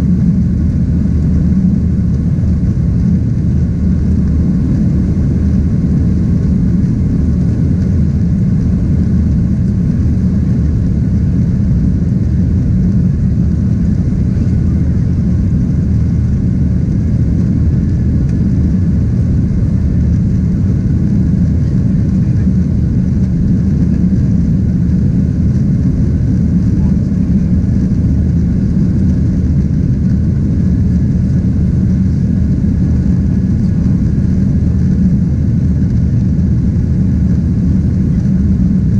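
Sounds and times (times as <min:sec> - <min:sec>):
aircraft engines rumbling in cabin: 0:00.0 - 0:38.9.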